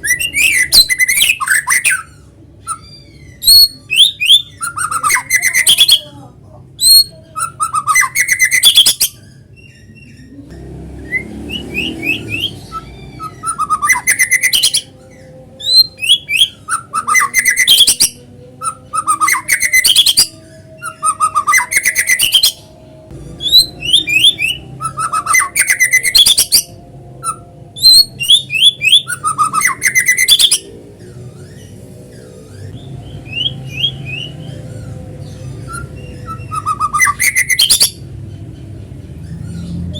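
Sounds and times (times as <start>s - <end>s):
bird singing varied phrases: 0.0s - 22.8s, 23.4s - 39.9s
soft bird twittering: 6.8s - 22.8s, 23.4s - 39.9s.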